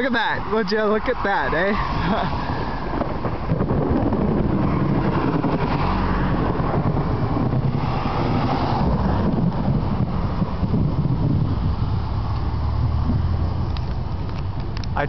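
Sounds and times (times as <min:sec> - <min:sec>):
wind gusting across microphone: 0:00.0 - 0:15.0.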